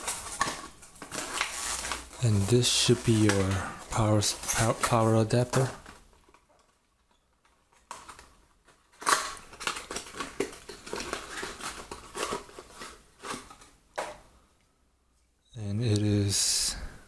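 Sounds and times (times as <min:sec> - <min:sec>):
packaging rustling: 0:00.0 - 0:14.2.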